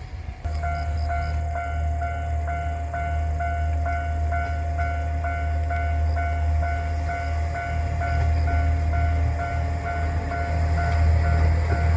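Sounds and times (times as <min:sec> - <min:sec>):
level-crossing alarm bell: 0:00.0 - 0:11.9
passing train: 0:00.0 - 0:11.9.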